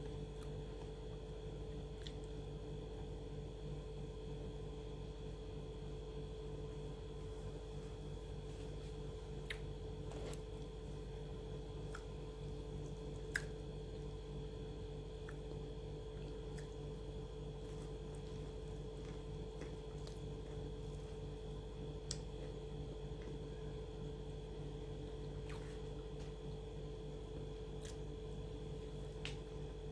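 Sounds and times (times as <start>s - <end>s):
steady background hum: 0.0s - 29.9s.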